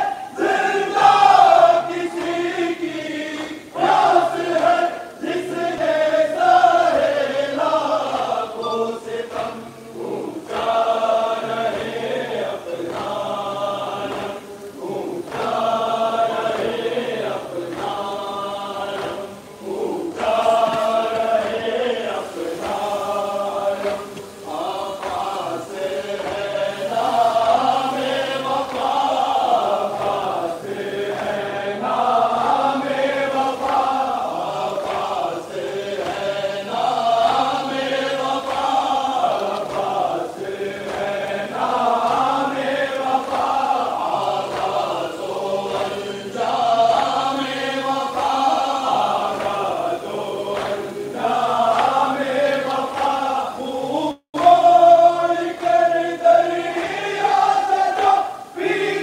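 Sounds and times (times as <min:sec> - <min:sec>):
men chanting in unison: 0:00.0 - 0:59.0.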